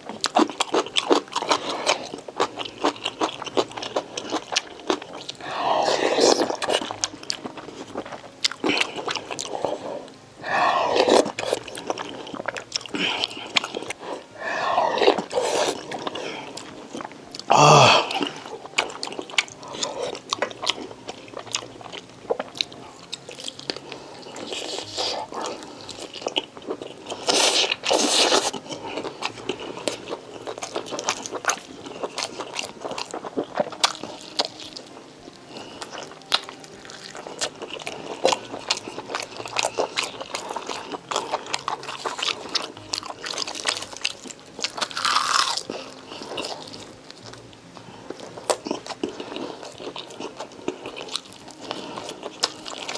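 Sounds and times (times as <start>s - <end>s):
person chewing food: 0.0s - 52.9s.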